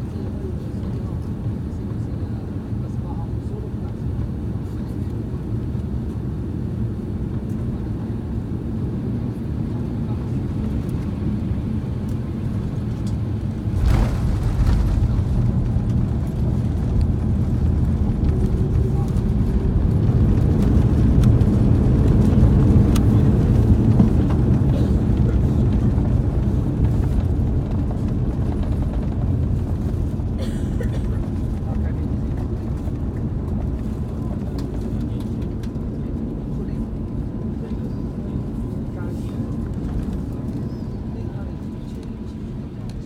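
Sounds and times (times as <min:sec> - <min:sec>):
jet engine and rolling rumble: 0:00.0 - 0:43.0.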